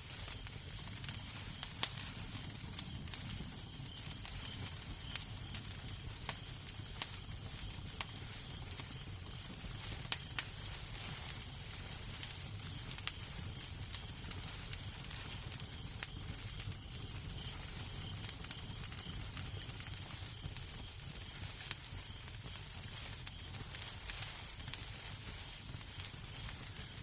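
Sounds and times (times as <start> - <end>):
fire crackles and pops: 0.0 - 27.0
fire hiss and low rumble: 0.0 - 27.0.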